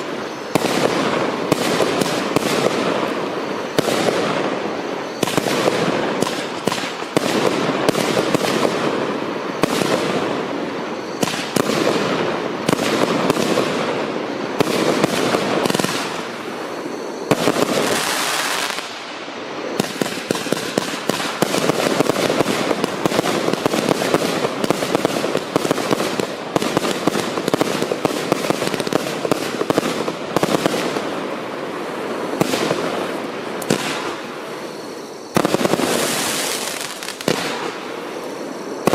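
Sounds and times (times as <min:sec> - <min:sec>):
fireworks firing and crackling: 0:00.0 - 0:38.9.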